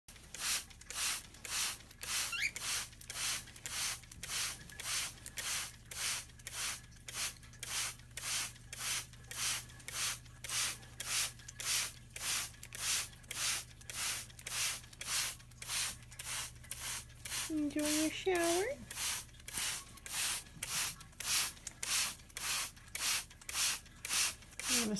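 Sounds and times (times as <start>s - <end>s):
spray bottle squirts: 0.1s - 24.9s.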